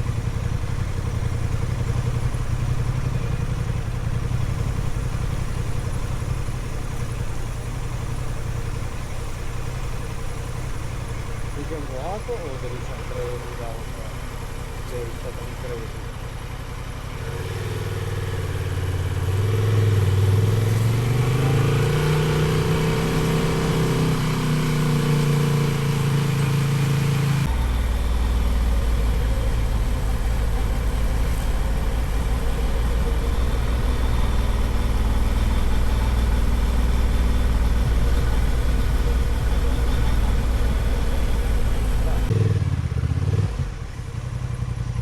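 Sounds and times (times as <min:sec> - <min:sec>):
motorcycle engine revving up: 0:00.0 - 0:16.0, 0:17.0 - 0:45.0
low rumble with rushing noise: 0:00.0 - 0:45.0.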